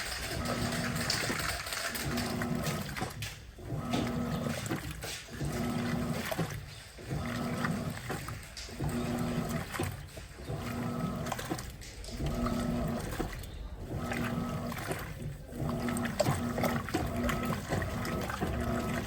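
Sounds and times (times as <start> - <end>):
agitator churning water: 0.0 - 19.0
washing machine motor humming: 0.0 - 19.0.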